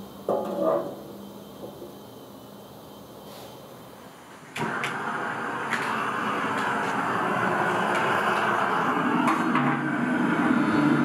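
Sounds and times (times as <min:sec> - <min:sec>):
gas torch roaring: 0:00.0 - 0:11.0.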